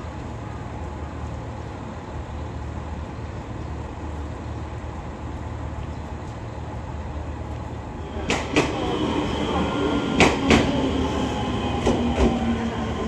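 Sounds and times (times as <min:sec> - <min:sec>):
electric locomotive low hum: 0:00.0 - 0:13.0.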